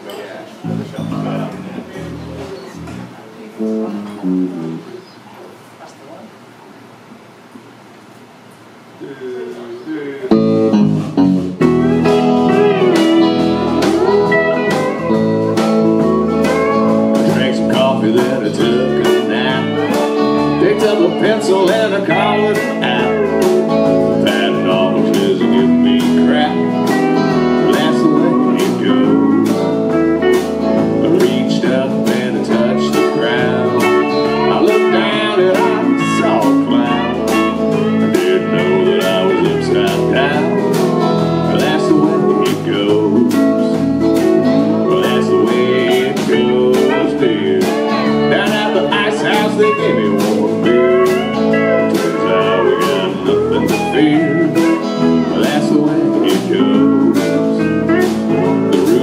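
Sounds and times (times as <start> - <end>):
bass guitar: 0.0 - 5.1, 10.3 - 59.0
electric guitar: 0.0 - 6.0, 10.2 - 59.0
pedal steel guitar: 0.6 - 5.0, 10.3 - 59.0
steady drum beat: 10.3 - 59.0.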